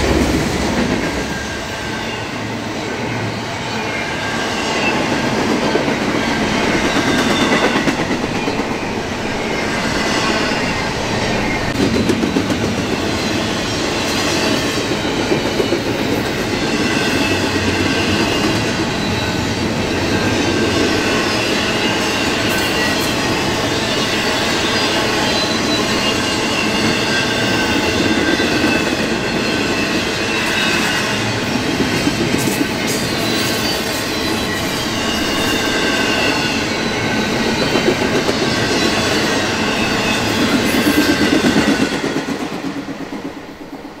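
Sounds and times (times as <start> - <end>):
freight train wheels on rails: 0.0 - 44.0.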